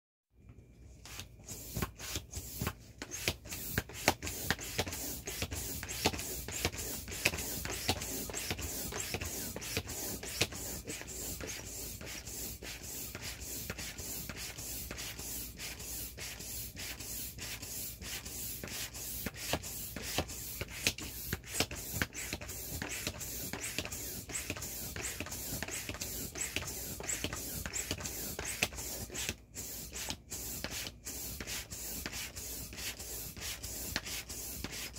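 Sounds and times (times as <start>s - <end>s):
air pump running: 1.1s - 34.9s.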